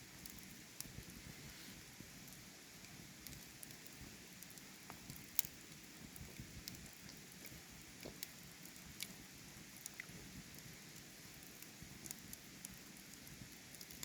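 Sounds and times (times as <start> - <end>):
campfire crackling and popping: 0.0 - 14.0
flowing water hiss: 0.0 - 14.0.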